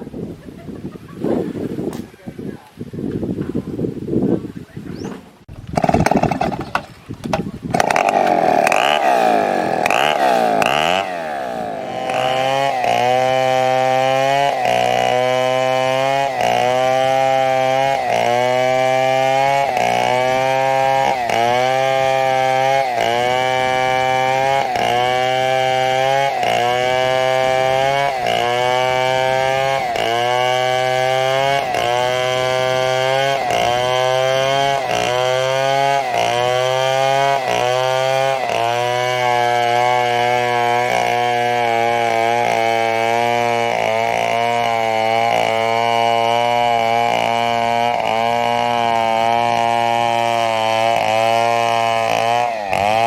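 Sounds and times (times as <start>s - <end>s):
chainsaw cutting wood: 5.5s - 53.0s.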